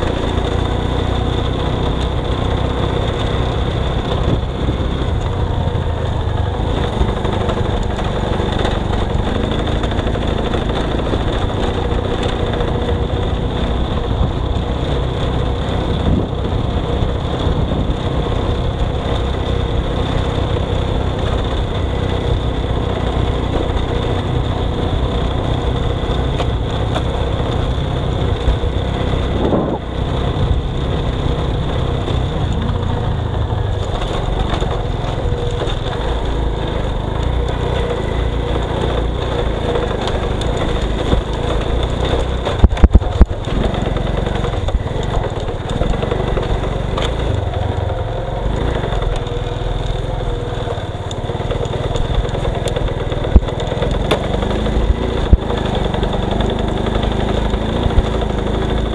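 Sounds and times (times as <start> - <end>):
vehicle engine rumbling: 0.0 - 58.9.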